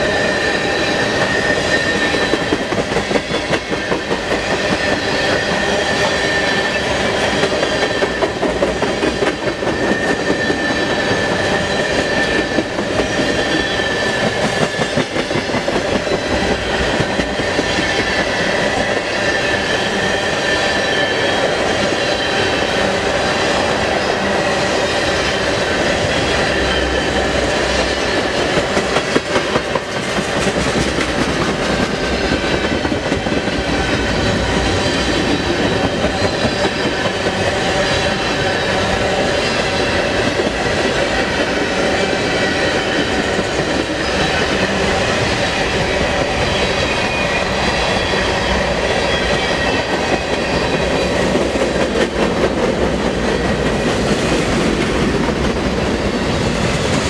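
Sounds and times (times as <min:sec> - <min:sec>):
steel wheels rushing on rail: 0:00.0 - 0:57.0.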